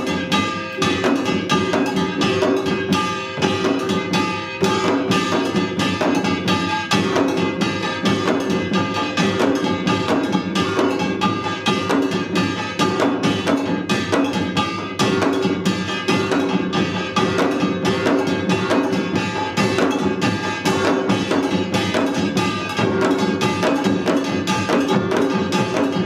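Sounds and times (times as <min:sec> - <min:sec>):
drums beating steady rhythm: 0:00.0 - 0:26.0
small gongs ringing: 0:00.0 - 0:26.0.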